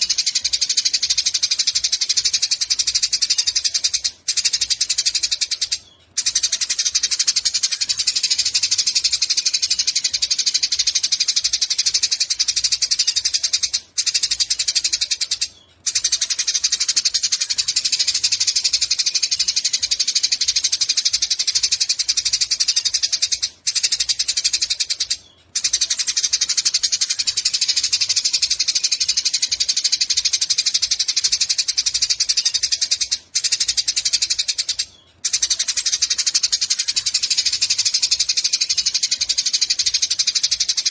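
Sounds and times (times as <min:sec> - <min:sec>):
sparrow chirping: 0:00.0 - 0:40.9.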